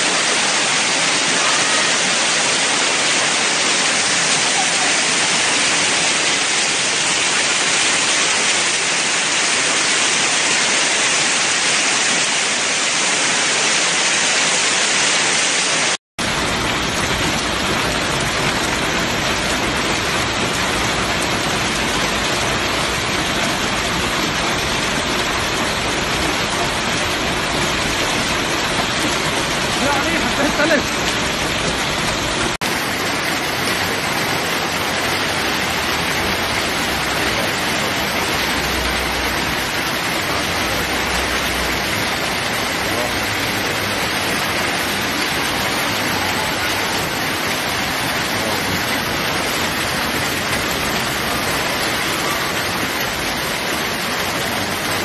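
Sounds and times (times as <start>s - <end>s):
hail and rain pelting cars: 0.0s - 55.0s.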